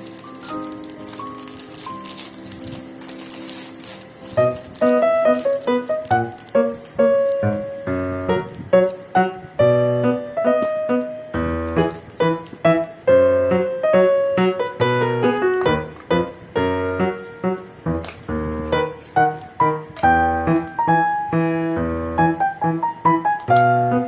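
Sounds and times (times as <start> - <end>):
piano melody: 0.0 - 24.0.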